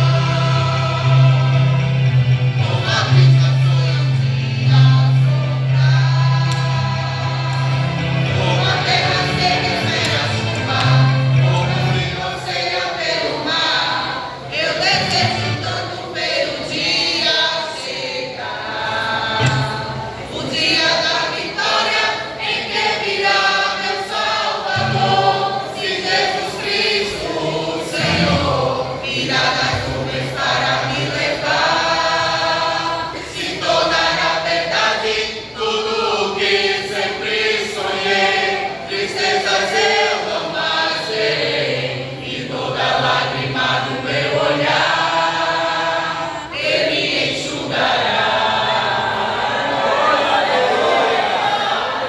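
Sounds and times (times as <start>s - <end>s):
vocal group singing in harmony: 0.0s - 52.0s.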